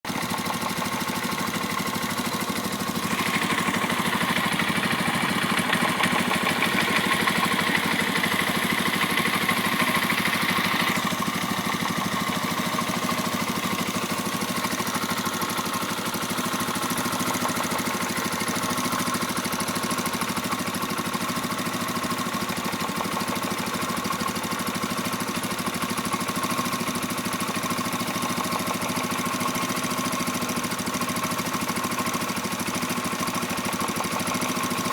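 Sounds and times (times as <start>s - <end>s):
engine knock: 0.0s - 34.9s
motorcycle engine idling: 0.0s - 34.9s.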